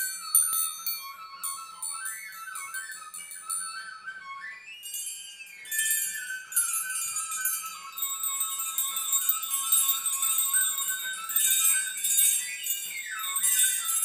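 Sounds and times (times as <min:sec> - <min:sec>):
jingling bells: 0:00.0 - 0:14.0.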